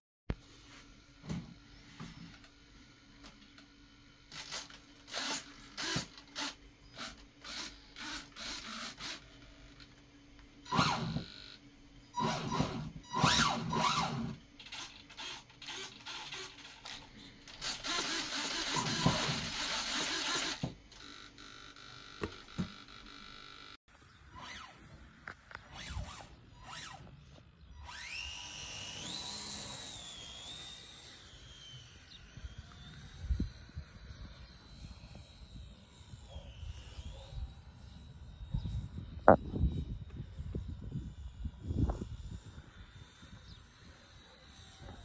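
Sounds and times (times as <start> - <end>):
servos whirring: 1.7 - 39.2.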